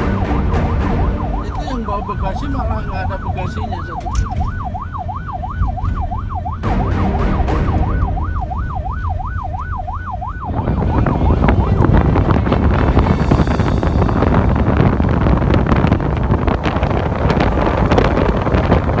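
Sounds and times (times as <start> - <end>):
emergency siren wailing: 0.0 - 19.0
rush of wind and engine: 0.0 - 19.0
vehicle low rumble: 0.0 - 19.0.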